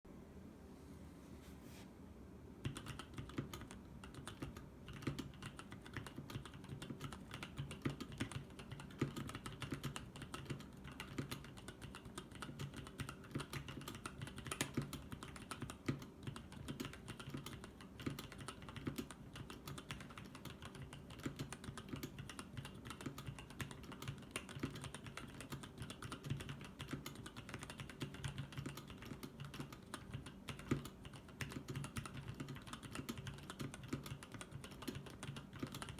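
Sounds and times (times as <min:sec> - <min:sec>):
mechanical keyboard typing: 0:02.6 - 0:35.9.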